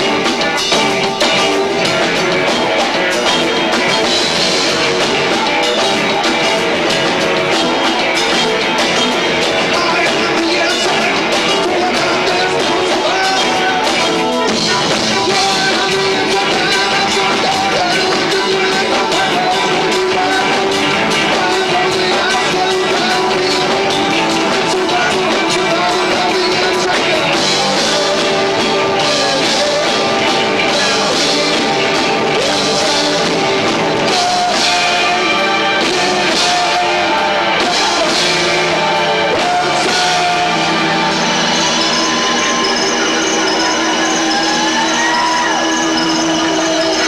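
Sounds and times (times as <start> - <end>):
live rock band: 0.0 - 47.0
person singing: 0.0 - 47.0.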